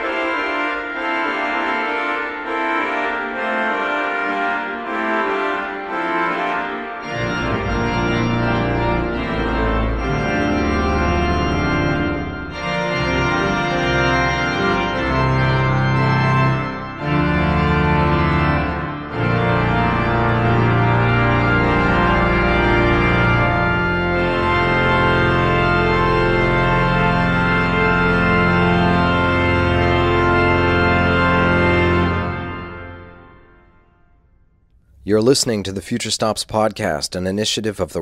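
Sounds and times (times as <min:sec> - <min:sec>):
pipe organ fanfare: 0:00.0 - 0:33.9.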